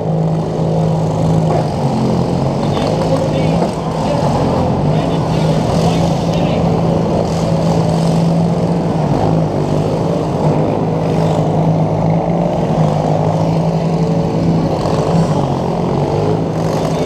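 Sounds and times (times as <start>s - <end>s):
lawn mower engine running fast: 0.0s - 17.0s.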